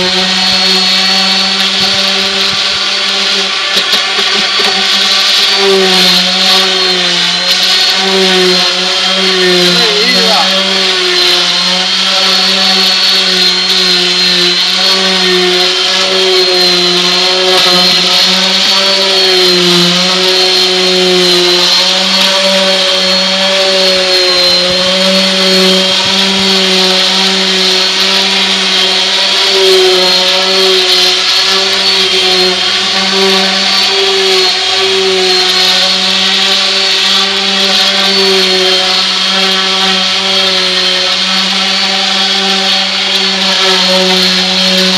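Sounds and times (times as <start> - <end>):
orbital sander sanding wood: 0.0 - 44.9.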